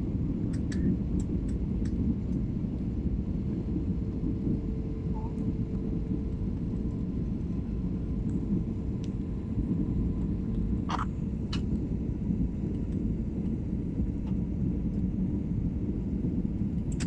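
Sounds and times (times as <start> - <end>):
airliner cabin engine drone: 0.0 - 17.0
faint steady hum: 0.0 - 17.0.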